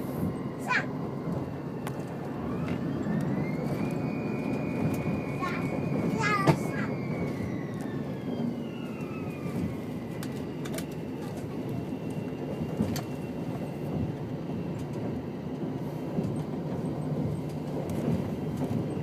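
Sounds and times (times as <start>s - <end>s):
railcar low rumble: 0.0s - 19.0s.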